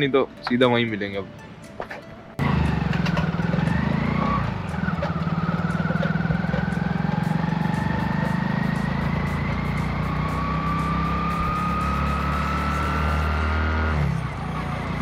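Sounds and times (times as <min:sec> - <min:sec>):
motorcycle engine running: 0:02.4 - 0:15.0.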